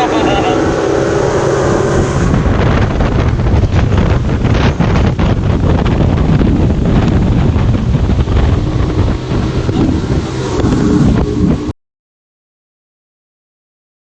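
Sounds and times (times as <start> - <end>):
motorboat engine running: 0.0 - 11.7
wind buffeting microphone: 0.0 - 11.7.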